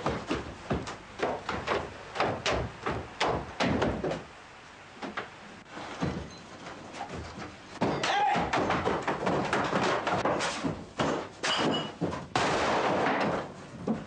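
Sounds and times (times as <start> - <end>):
rapid knocks and thuds: 0.0 - 4.3, 6.0 - 6.4, 7.0 - 14.0.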